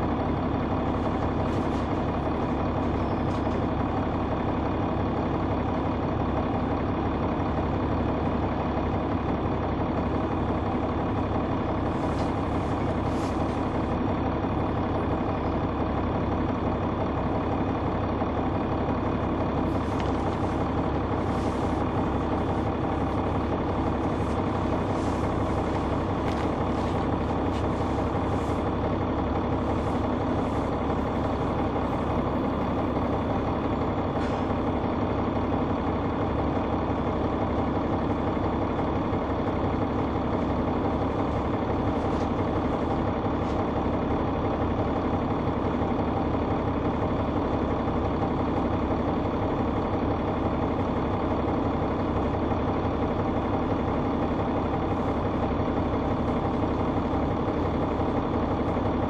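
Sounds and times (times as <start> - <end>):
bus diesel engine hum: 0.0 - 59.0.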